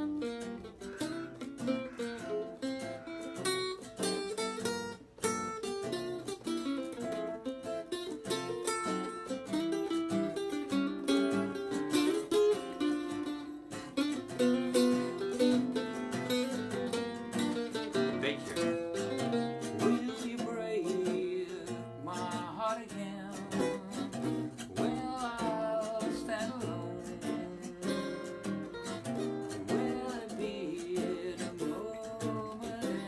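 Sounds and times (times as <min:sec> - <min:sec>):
acoustic guitars playing jazz: 0:00.0 - 0:33.0.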